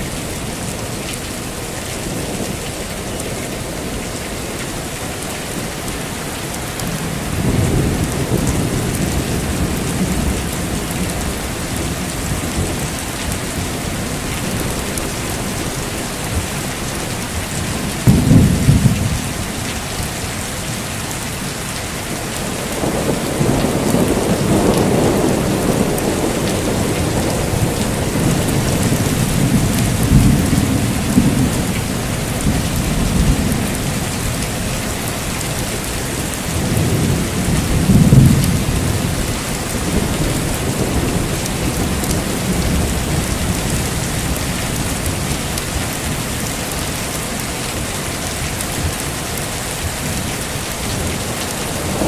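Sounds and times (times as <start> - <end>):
heavy rain: 0.0 - 52.0
thunder rumbling: 6.8 - 52.0.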